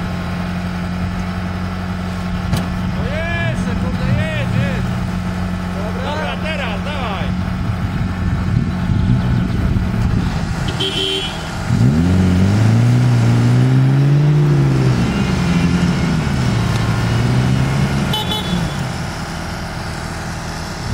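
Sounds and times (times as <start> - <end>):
off-road vehicle engine revving: 0.0 - 20.9.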